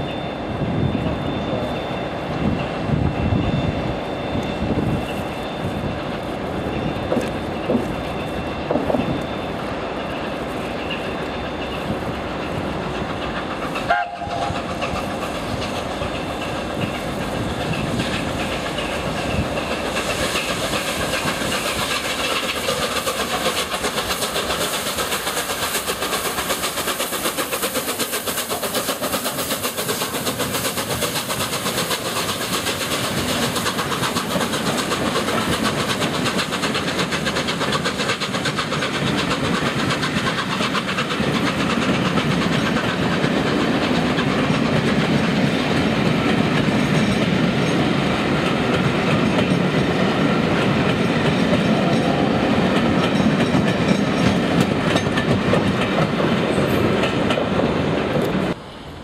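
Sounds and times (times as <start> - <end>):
steam locomotive passing: 0.0 - 59.0
wheels clacking over rail joints: 4.3 - 58.6.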